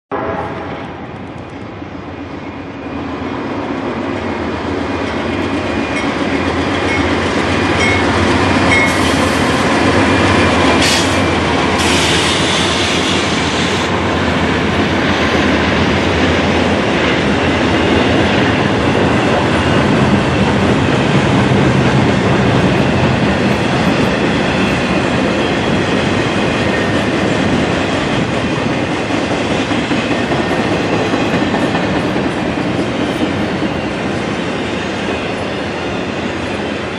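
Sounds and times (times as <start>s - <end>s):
diesel locomotive engines: 0.1s - 36.9s
train wheel rumble: 0.2s - 36.9s
clickety-clack over rail joints: 3.7s - 12.6s, 13.8s - 36.9s.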